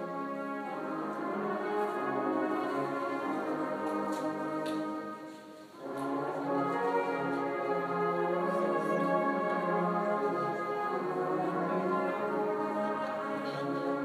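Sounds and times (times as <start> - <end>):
brass band playing chords: 0.0 - 14.0.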